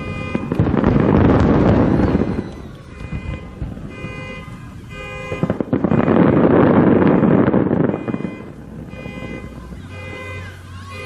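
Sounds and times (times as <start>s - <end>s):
firework shells bursting: 0.0s - 10.5s
steady horn tones: 0.0s - 11.0s.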